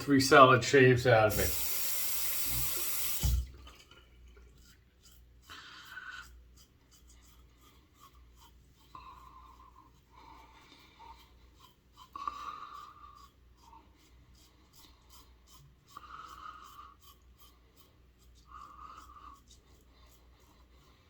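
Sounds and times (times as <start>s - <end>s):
razor rasping on face: 1.2s - 3.3s, 4.6s - 21.0s.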